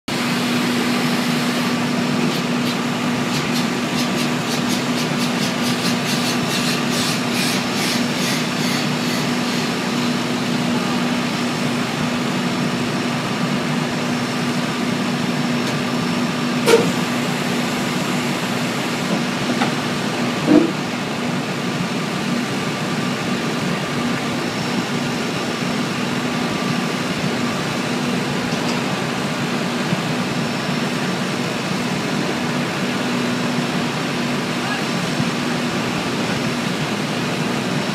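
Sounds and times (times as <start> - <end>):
ground equipment humming: 0.1 - 37.9.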